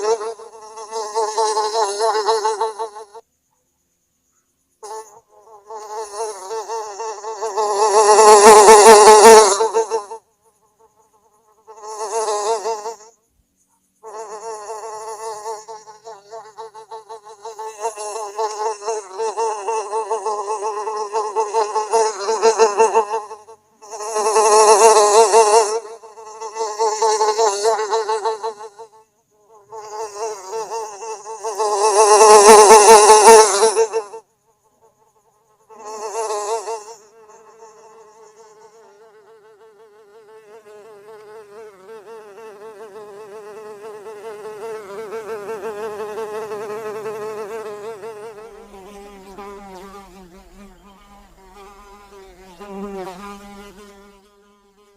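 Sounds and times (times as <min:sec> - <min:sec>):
houseflies buzzing: 0:00.0 - 0:03.2, 0:04.8 - 0:10.2, 0:14.0 - 0:34.2, 0:34.8 - 0:54.9.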